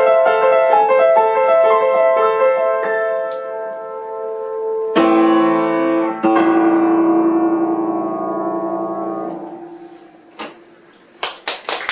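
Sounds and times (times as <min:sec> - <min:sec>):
piano chords: 0:00.0 - 0:11.3.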